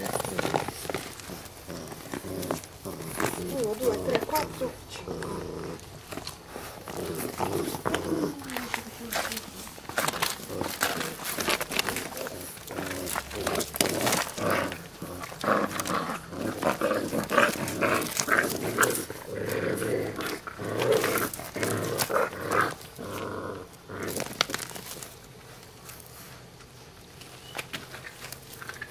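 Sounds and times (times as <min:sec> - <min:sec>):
puppies growling: 0:00.0 - 0:28.9.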